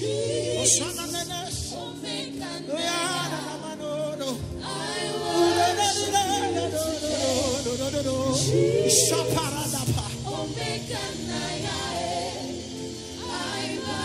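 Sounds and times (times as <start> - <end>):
low musical accompaniment: 0.0 - 14.0
voices singing together: 0.0 - 14.0.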